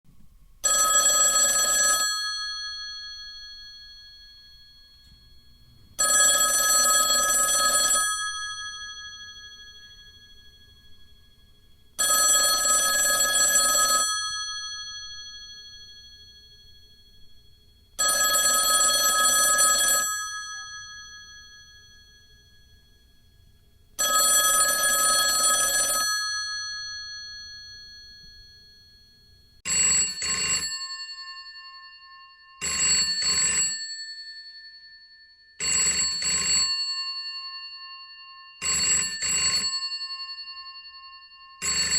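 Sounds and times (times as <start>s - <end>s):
telephone bell ringing: 0.6s - 41.9s.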